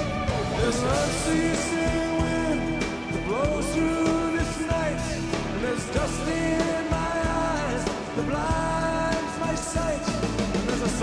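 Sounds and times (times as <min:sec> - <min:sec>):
rock music with gliding melody: 0:00.0 - 0:11.0.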